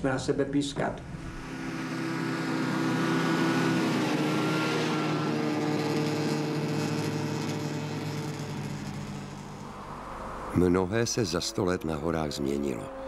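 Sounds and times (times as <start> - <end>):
snowmobile engine passing: 1.2 - 13.0.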